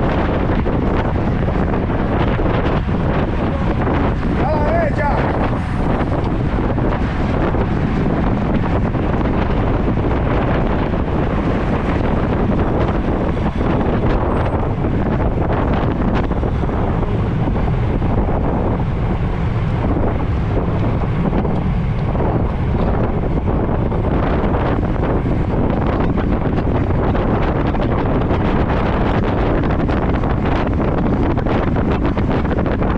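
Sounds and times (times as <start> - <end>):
wind noise on microphone: 0.0 - 32.9.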